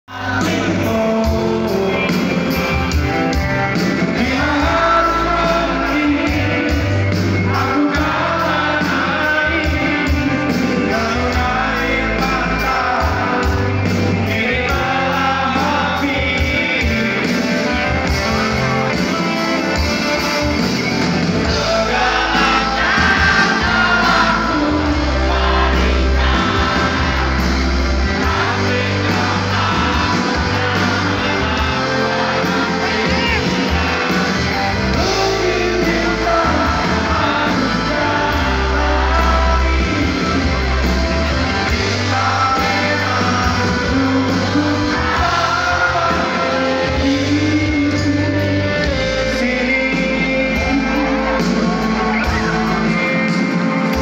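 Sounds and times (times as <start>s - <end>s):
person singing: 0.0s - 20.6s, 21.4s - 54.0s
drums: 0.0s - 54.0s
electric guitars: 0.1s - 54.0s
live rock band playing: 0.1s - 54.0s.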